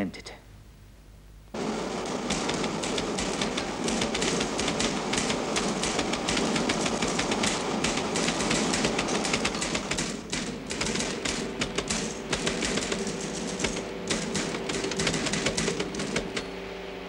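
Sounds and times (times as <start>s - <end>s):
typewriters clattering: 1.6s - 16.6s.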